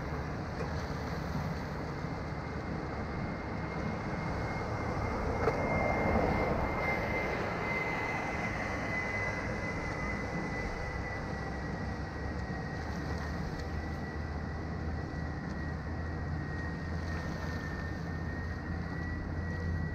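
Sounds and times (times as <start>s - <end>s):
thin high whine: 0.0s - 19.9s
wind: 0.0s - 19.9s.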